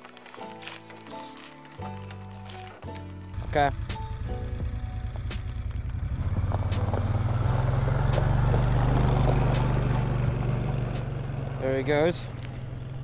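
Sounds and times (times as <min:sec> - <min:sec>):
utility vehicle engine driving: 0:00.0 - 0:13.0.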